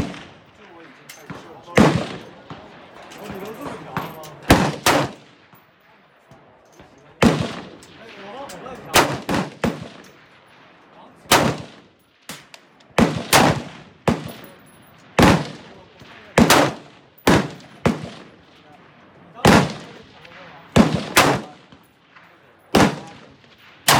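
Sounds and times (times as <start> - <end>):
rifle shots echoing: 0.0 - 5.9, 6.8 - 23.9.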